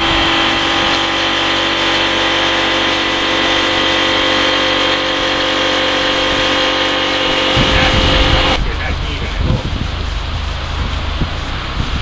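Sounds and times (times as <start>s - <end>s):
inflator machine hum: 0.0s - 12.0s.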